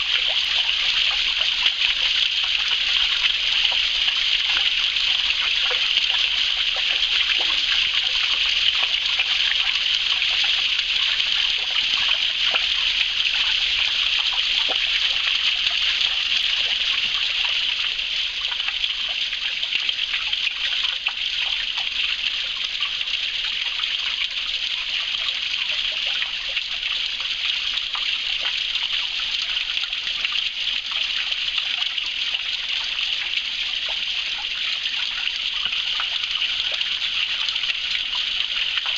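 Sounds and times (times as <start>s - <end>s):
stream flowing over stones: 0.0s - 38.9s
water trickling and splashing: 0.0s - 38.9s.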